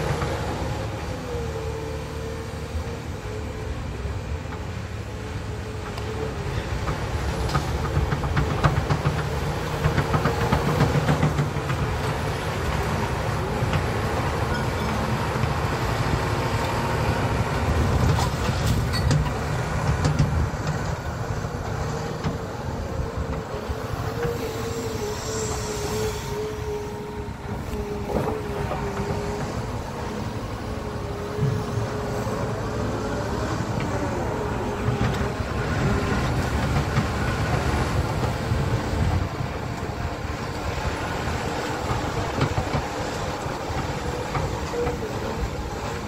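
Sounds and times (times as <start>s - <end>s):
constant machine whine: 0.0s - 46.0s
machinery engine rumble: 0.0s - 46.0s.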